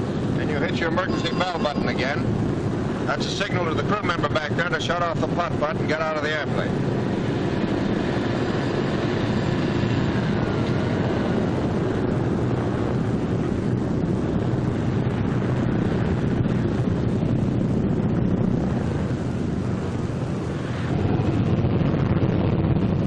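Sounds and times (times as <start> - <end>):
twin radial aircraft engines running: 0.0 - 23.0.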